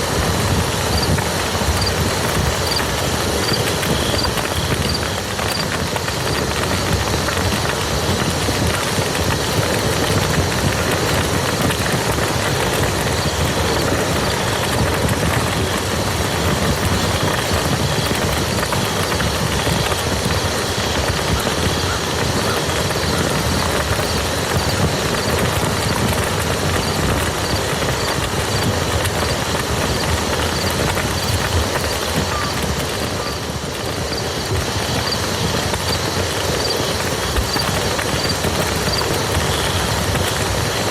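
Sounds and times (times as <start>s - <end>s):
rain falling on mud: 0.0s - 40.9s.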